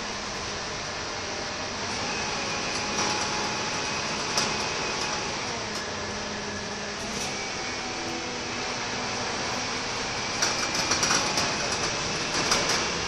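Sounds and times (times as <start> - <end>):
bus diesel engine: 0.0 - 13.0
road noise: 0.0 - 13.0.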